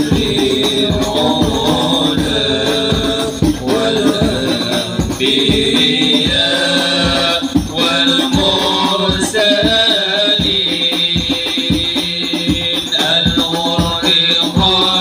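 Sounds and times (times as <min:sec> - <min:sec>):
hand drums beating: 0:00.0 - 0:15.0
men chanting a devotional song: 0:00.0 - 0:15.0.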